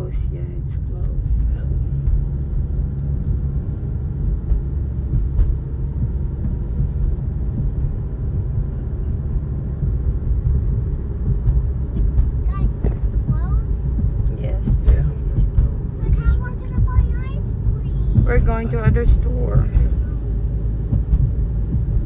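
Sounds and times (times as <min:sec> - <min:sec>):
car tyre and engine rumble: 0:00.0 - 0:22.0.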